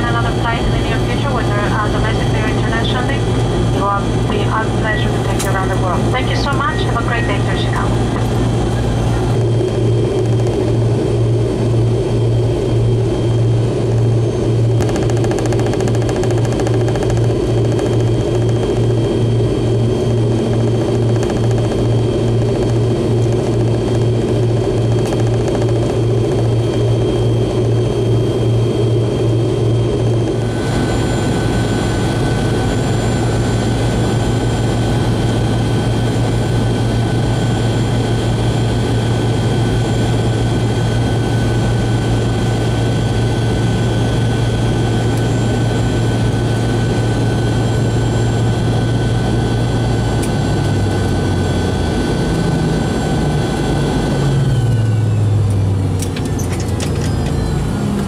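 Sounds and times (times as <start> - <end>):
jet engines humming in cabin: 0.0 - 58.0
thin high engine whine: 0.0 - 58.0.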